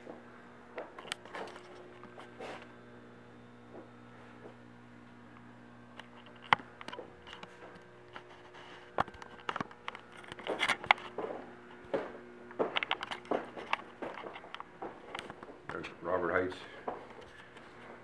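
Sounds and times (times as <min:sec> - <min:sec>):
footsteps and camera handling noise: 0:00.0 - 0:02.8, 0:03.6 - 0:15.9, 0:16.8 - 0:18.0
low room hum: 0:00.0 - 0:18.0.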